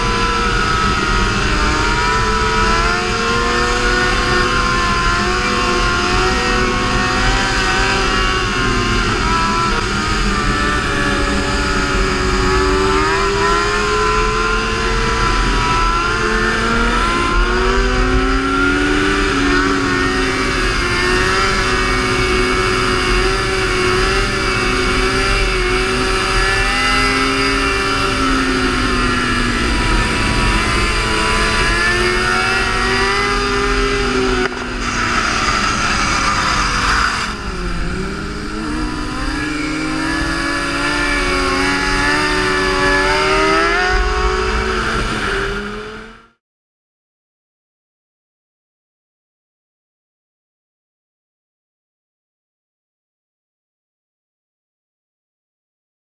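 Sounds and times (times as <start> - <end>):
sport-bike engines revving: 0.0 - 46.2.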